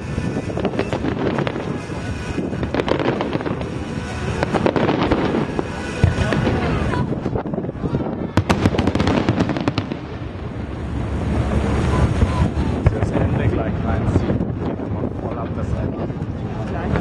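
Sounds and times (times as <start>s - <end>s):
fireworks bursting and crackling: 0.0s - 17.0s.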